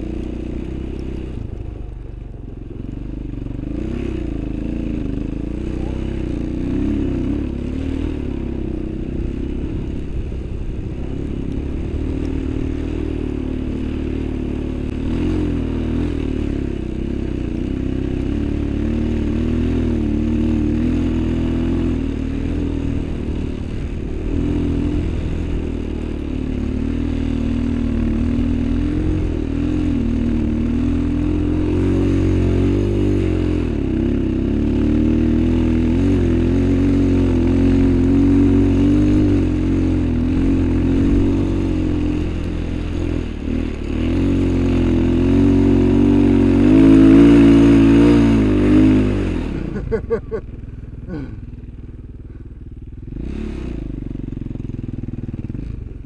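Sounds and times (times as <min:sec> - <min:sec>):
small vehicle engine labouring: 0:00.0 - 0:56.0.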